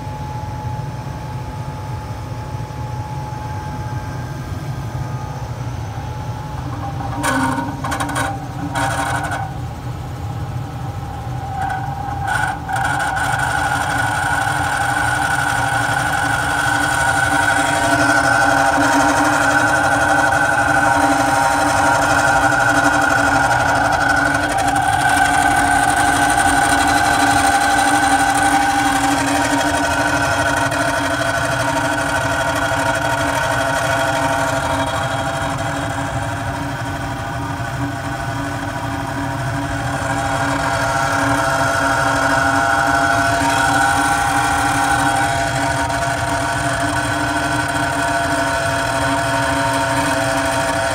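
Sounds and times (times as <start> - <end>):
blower motor grinding and whining: 1.9 - 50.9.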